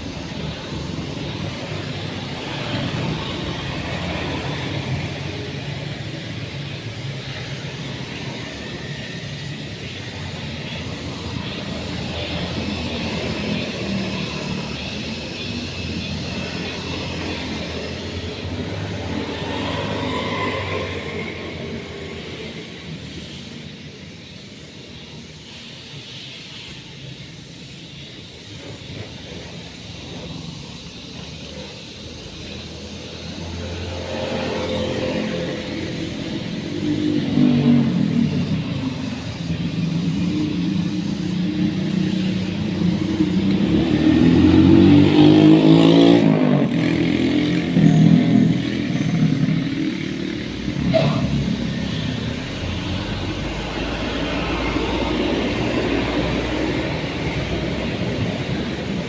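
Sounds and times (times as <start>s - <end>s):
engine revving: 0.0s - 23.5s, 29.8s - 59.0s.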